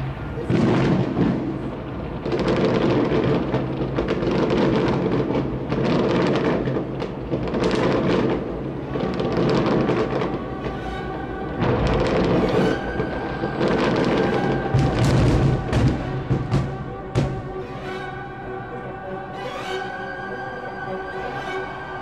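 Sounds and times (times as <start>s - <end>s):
rumbling roll: 0.0s - 19.4s
fireworks crackling and banging: 0.0s - 20.0s.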